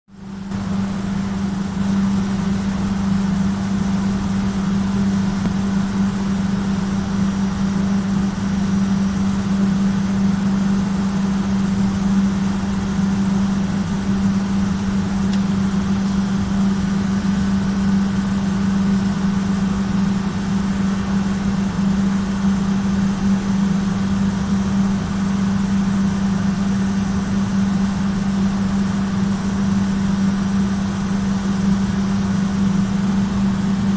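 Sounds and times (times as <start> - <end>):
electric motor humming and rumbling: 0.2 - 33.9.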